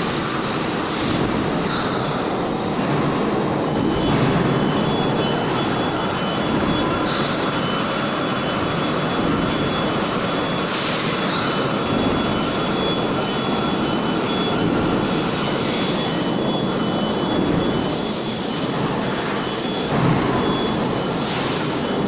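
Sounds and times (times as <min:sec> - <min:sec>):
machine steady mechanical noise: 0:00.0 - 0:22.0.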